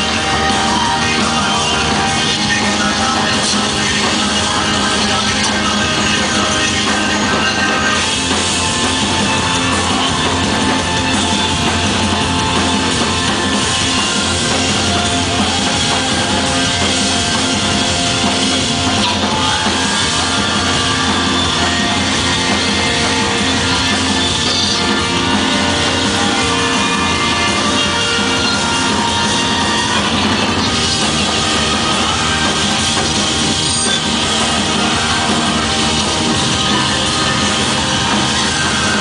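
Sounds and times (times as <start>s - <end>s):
drum kit: 0.0s - 39.0s
live electronic music: 0.0s - 39.0s.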